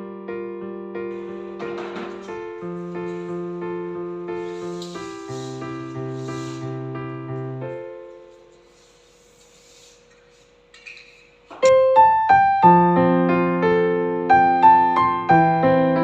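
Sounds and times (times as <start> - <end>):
piano music: 0.0 - 8.8, 11.5 - 16.0.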